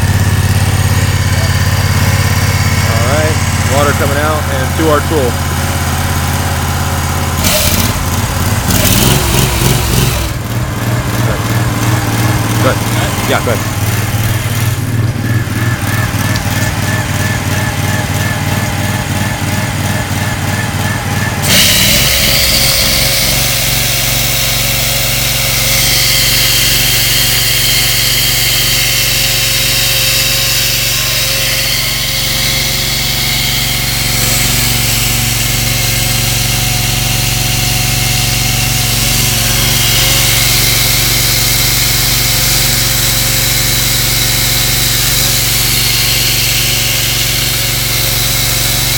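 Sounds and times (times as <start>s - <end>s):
chainsaw grinding into concrete: 0.0s - 48.9s
hydraulic power unit engine running: 0.0s - 48.9s.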